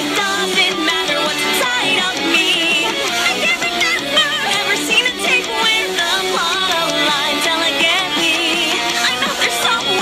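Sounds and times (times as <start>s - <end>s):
song with warbling melody: 0.0s - 10.0s.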